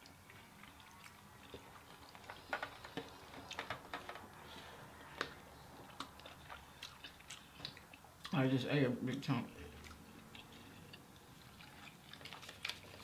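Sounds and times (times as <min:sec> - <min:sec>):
chewing: 0:00.0 - 0:03.8, 0:04.5 - 0:08.4, 0:09.1 - 0:13.0.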